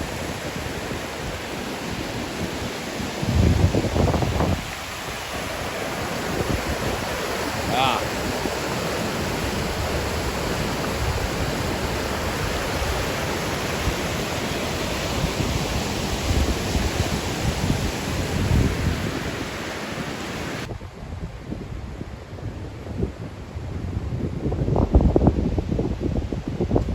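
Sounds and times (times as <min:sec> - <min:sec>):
rushing water: 0:00.0 - 0:26.9
wind buffeting microphone: 0:00.0 - 0:26.9.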